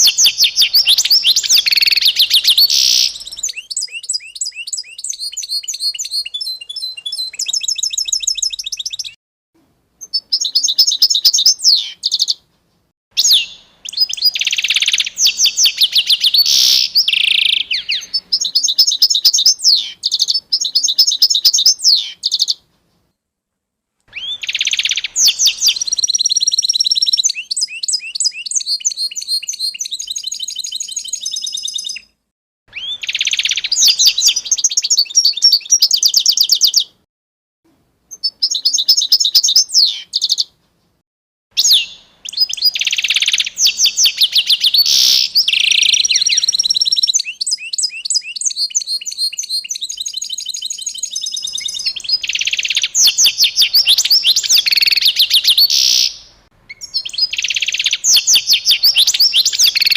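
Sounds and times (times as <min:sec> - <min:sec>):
songbird trilling: 0:00.0 - 0:09.2, 0:10.0 - 0:12.4, 0:13.2 - 0:22.6, 0:24.1 - 0:32.1, 0:32.7 - 0:36.9, 0:38.1 - 0:40.5, 0:41.6 - 0:59.9.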